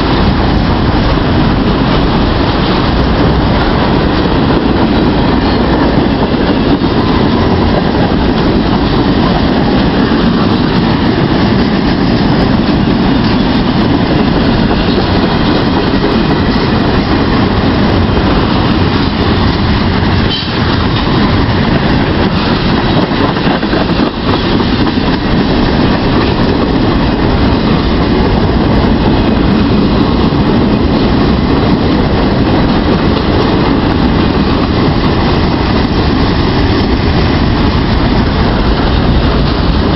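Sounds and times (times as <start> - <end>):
train wheels on rail: 0.0 - 39.9.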